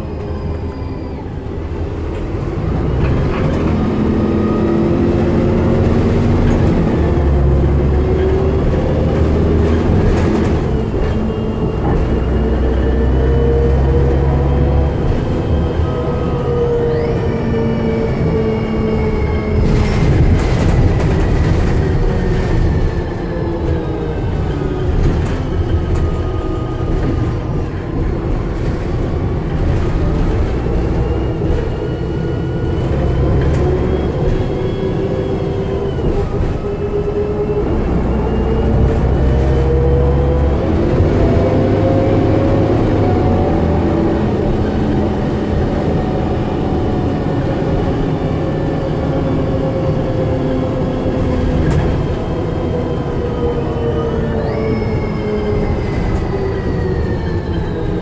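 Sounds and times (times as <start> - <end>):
bus engine rumble and whine: 0.0 - 58.0.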